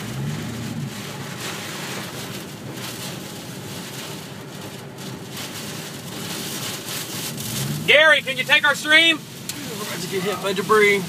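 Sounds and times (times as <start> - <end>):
storm wind and rain: 0.0 - 11.0.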